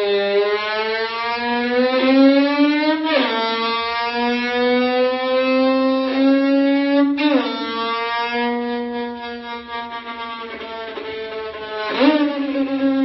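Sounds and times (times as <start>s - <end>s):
violin held note sliding in pitch: 0.0s - 13.0s.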